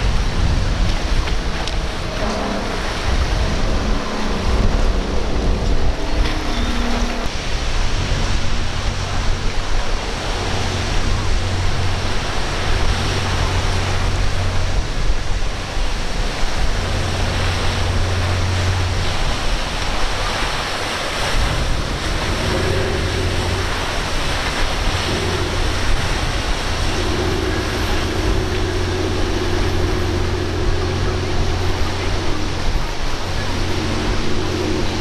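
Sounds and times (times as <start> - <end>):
higher steady hum: 0.0 - 35.0
low boat engine drone: 0.0 - 35.0
surf and water rushing: 0.0 - 35.0.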